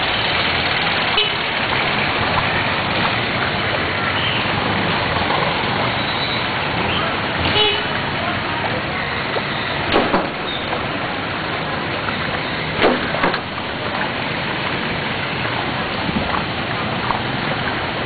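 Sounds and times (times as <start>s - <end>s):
rain and rushing floodwater: 0.0s - 18.0s.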